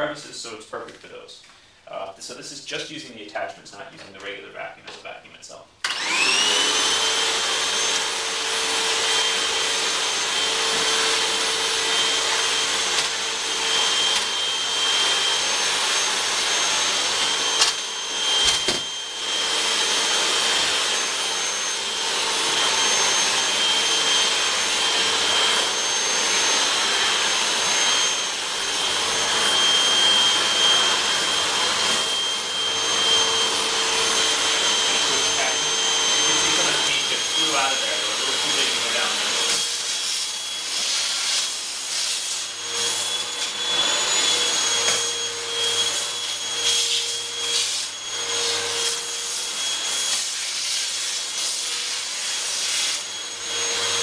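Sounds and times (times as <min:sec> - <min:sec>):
vacuum cleaner motor whine: 0:05.8 - 0:54.0.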